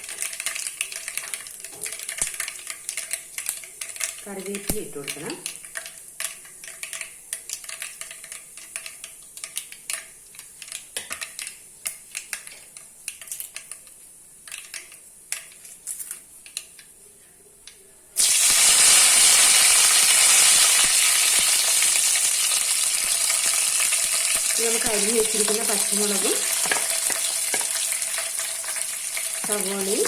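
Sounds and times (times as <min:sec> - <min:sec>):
leaves sizzling in hot oil: 0:00.0 - 0:13.5, 0:18.2 - 0:30.0
seeds popping in hot oil: 0:00.0 - 0:16.9, 0:18.2 - 0:30.0.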